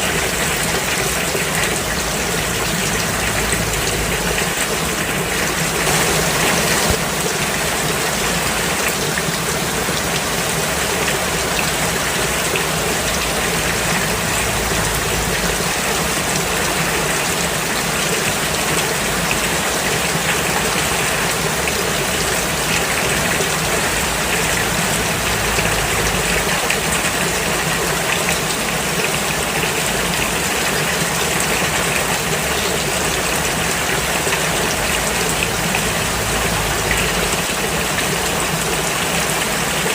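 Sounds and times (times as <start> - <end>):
heavy rain on a road: 0.0 - 39.9.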